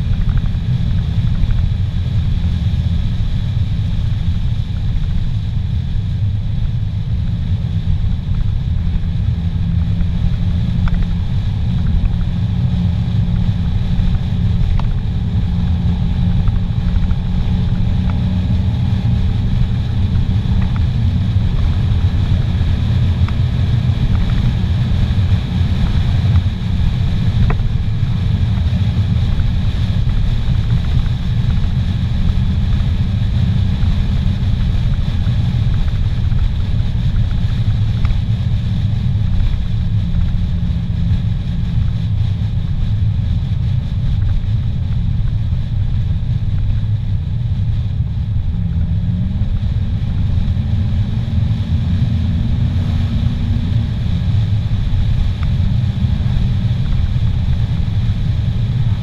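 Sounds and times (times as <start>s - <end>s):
car engine droning: 0.0s - 59.0s
road and wind noise rumble: 0.0s - 59.0s.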